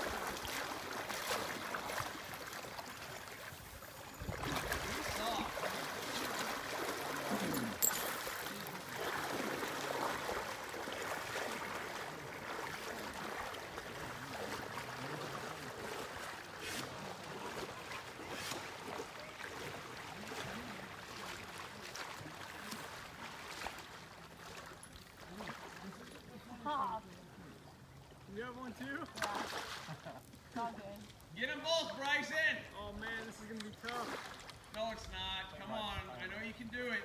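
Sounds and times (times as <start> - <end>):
river water running: 0.0 - 37.0.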